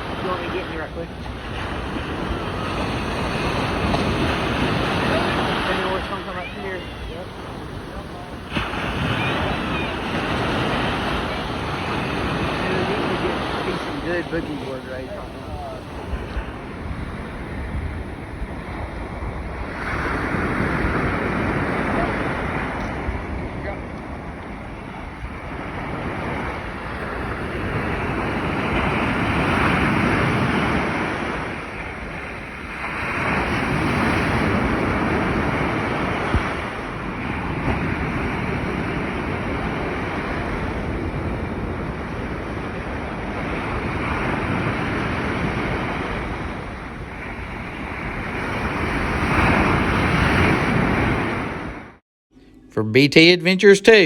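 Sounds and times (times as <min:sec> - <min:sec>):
surf washing up a sandy beach: 0:00.0 - 0:51.9.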